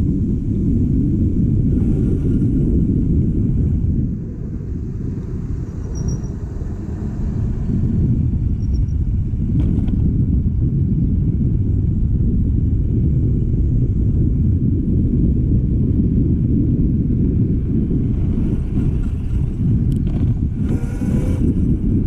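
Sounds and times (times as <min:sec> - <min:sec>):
road and wind noise: 0:00.0 - 0:22.0
scooter engine rumble: 0:00.0 - 0:22.0.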